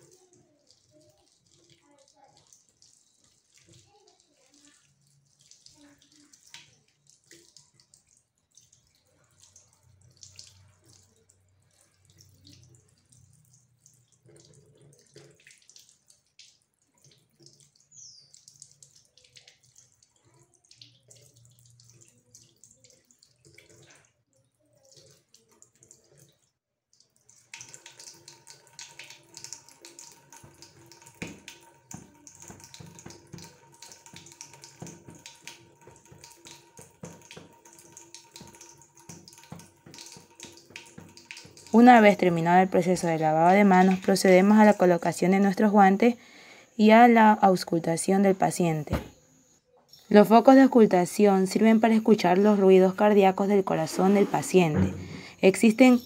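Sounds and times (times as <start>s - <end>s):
tap water running into sink: 0.0s - 26.4s, 27.0s - 46.1s, 47.6s - 49.2s, 50.2s - 56.0s.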